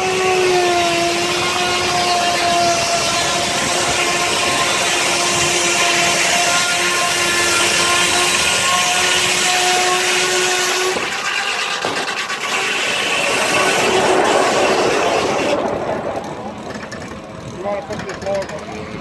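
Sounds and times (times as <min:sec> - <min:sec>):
circular saw cutting log: 0:00.0 - 0:18.8.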